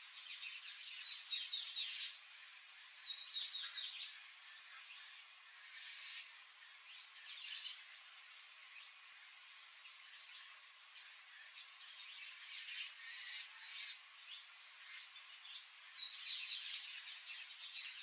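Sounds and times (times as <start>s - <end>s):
bird song squeaky twittering: 0.0s - 9.2s, 9.8s - 18.0s.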